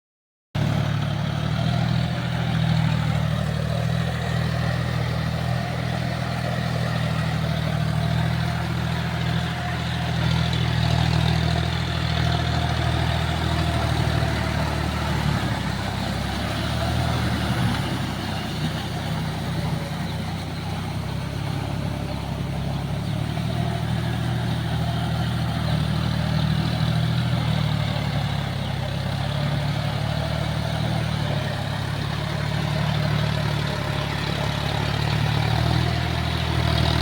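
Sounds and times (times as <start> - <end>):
tractor diesel engine running: 0.6 - 37.0.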